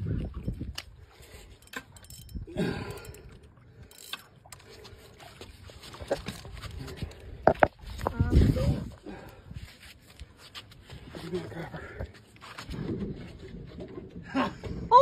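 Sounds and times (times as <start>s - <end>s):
people moving on wooden dock: 0.0s - 15.0s.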